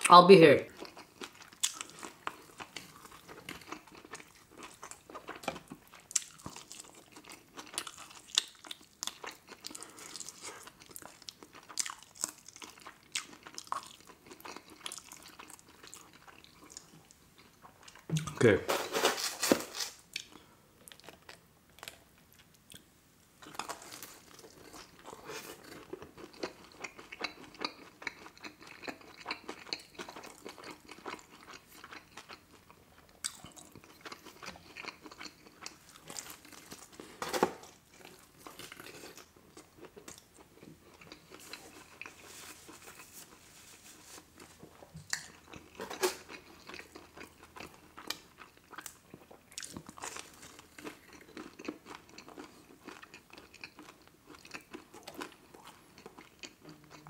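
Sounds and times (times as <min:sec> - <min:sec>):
chewing and biting pizza: 0:00.8 - 0:18.0, 0:23.4 - 0:43.4, 0:44.2 - 0:57.0.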